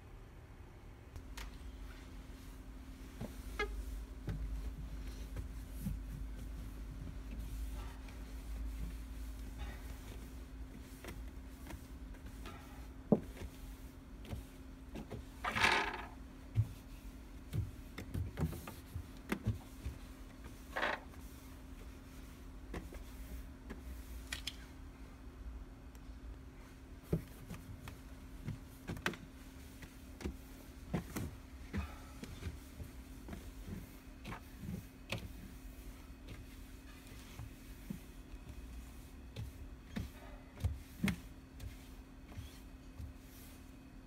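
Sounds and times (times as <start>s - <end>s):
cloth wiping plastic: 1.5s - 24.6s, 26.6s - 44.0s.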